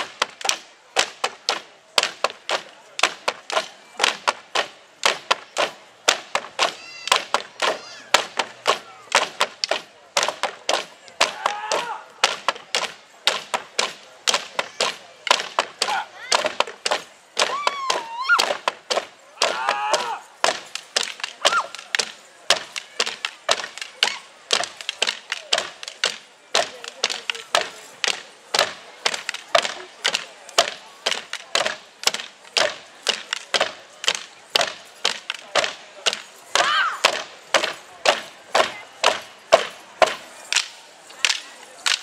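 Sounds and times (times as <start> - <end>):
sticks clacking together: 0.0 - 42.0.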